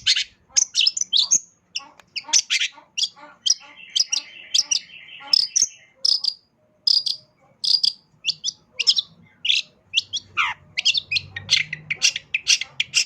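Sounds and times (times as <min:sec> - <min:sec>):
bird singing sharp high notes: 0:02.2 - 0:13.0.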